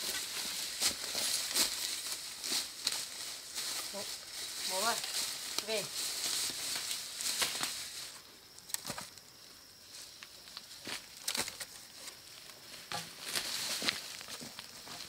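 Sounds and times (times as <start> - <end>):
soil and dry grass rustling: 0.0 - 15.0.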